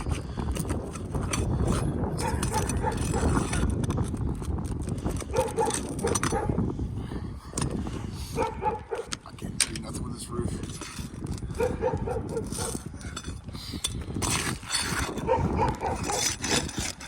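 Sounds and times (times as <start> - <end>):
steady low rumble: 0.0 - 16.2.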